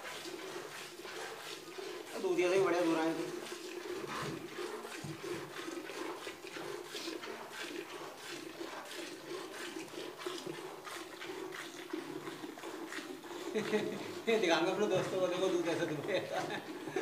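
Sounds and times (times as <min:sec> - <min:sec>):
milk squirting into a container: 0:00.0 - 0:17.0.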